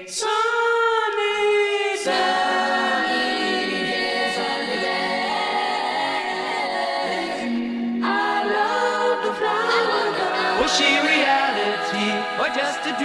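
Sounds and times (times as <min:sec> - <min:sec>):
wordless choir-like vocal harmonies: 0:00.0 - 0:13.0.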